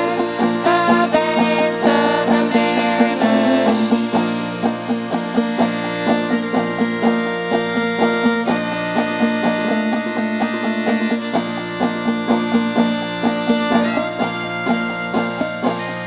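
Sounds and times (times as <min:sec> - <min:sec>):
banjo plucking: 0:00.0 - 0:16.0
fiddle playing: 0:00.0 - 0:16.0.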